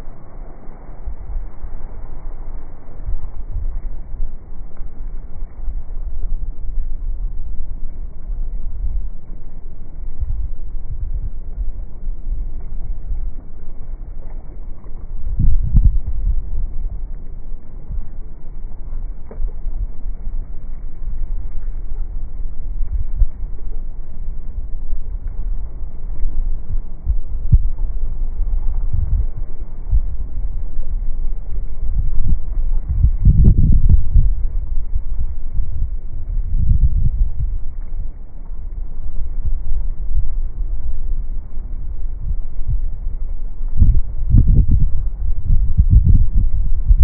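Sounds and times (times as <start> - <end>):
wind rumbling on microphone: 0.0 - 47.0.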